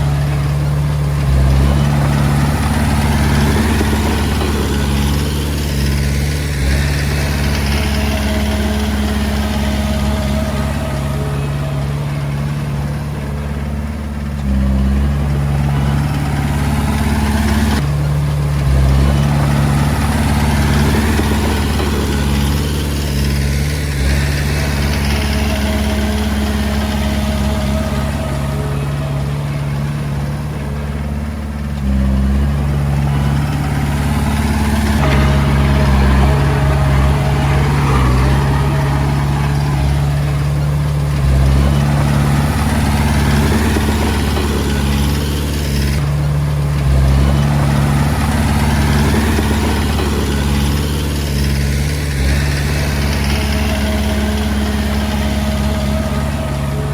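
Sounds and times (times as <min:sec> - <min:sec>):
bulldozer diesel engine working: 0:00.0 - 0:56.9.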